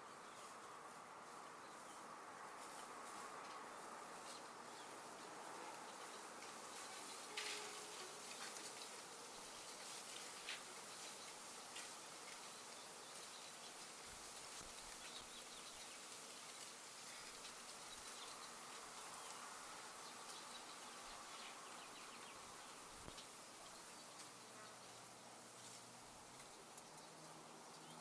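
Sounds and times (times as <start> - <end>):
soft hiss: 0.0 - 28.0
insects buzzing: 3.8 - 28.0.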